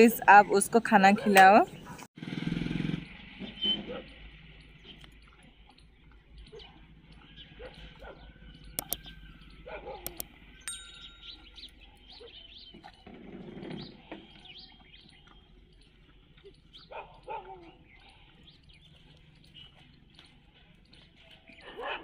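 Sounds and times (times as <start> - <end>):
small birds chirping: 2.9 - 22.0.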